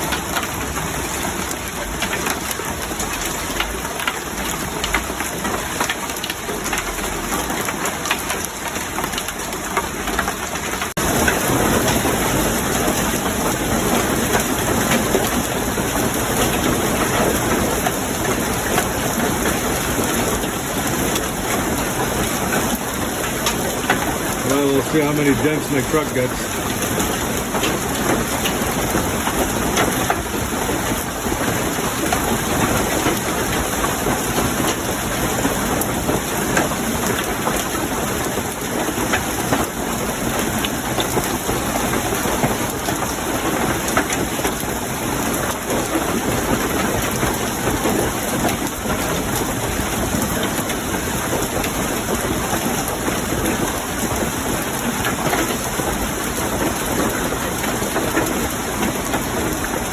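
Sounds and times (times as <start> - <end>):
hailstones falling hard: 0.0 - 59.9.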